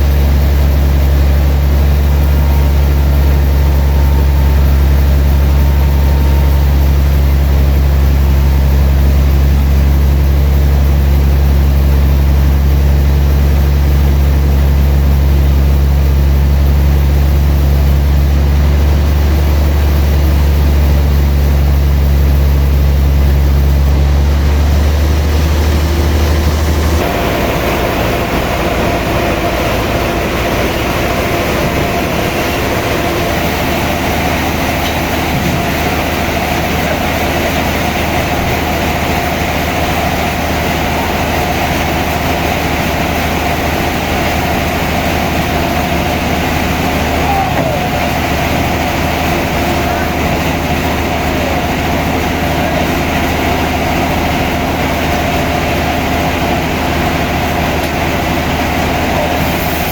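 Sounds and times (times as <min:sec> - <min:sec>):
higher machine noise with tones: 0:00.0 - 0:59.9
sawmill machinery low hum: 0:00.0 - 0:59.9.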